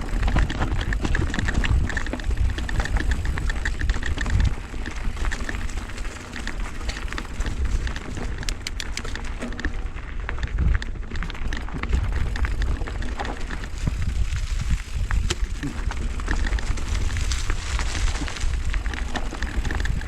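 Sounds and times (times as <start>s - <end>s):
footsteps on rocky dirt trail: 0.0s - 20.0s
wind buffeting microphone: 0.0s - 20.0s.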